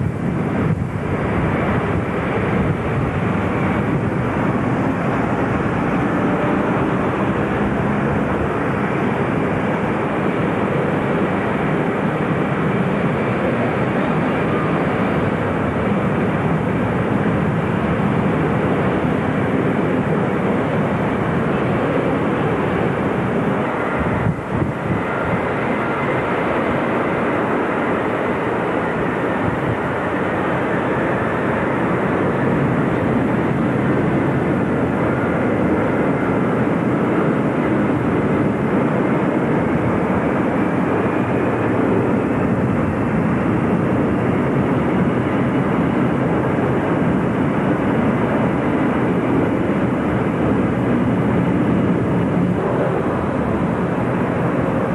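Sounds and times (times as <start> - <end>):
distant jet engines running: 0.0 - 54.9.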